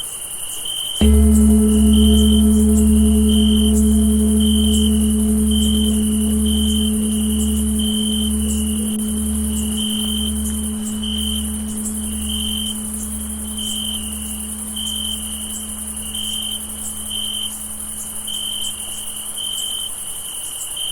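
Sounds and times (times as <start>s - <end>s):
tolled bell hum: 1.0s - 19.0s.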